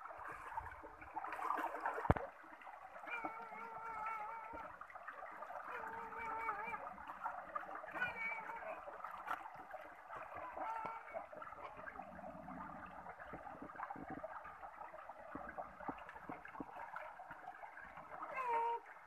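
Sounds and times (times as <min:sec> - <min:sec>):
small splashes: 0:00.0 - 0:19.0
stream water gurgling over rocks: 0:00.0 - 0:19.0.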